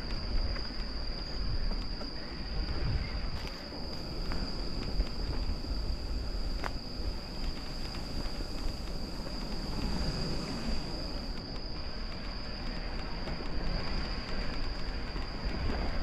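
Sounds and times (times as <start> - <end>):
clicks from riding: 0.0 - 16.0
crickets trilling: 0.0 - 16.0.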